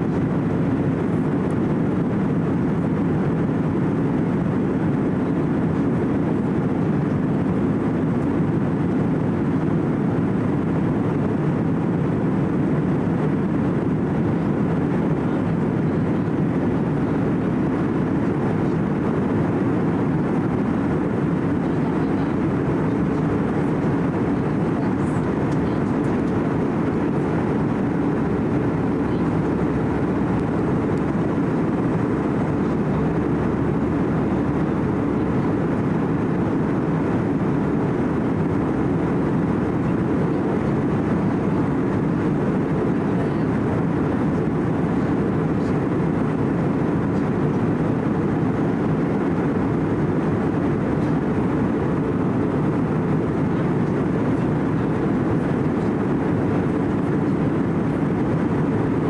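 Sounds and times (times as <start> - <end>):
aircraft engines rushing: 0.0 - 59.0.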